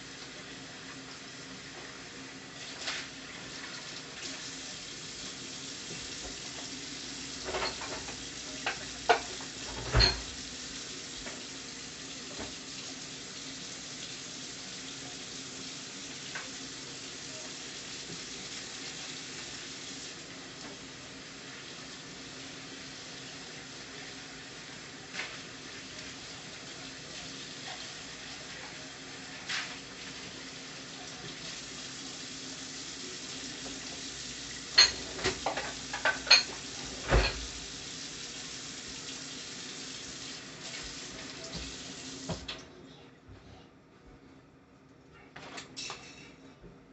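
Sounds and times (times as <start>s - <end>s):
curry sizzling in a pan: 0.0s - 42.4s.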